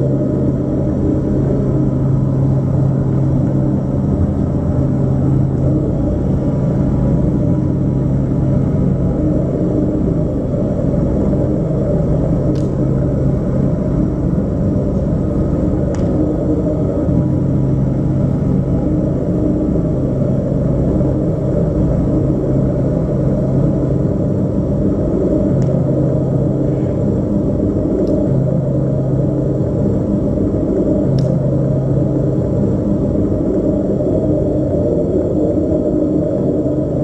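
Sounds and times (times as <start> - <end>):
low dense musical drone: 0.0 - 37.0.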